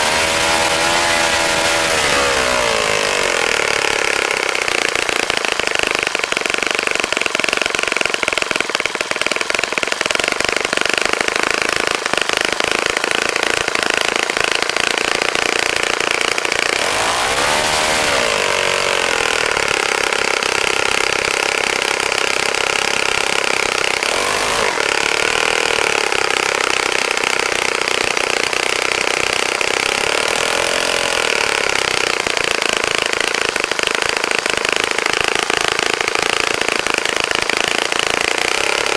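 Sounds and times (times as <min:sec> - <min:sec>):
model glow engine running fast: 0:00.0 - 0:38.9.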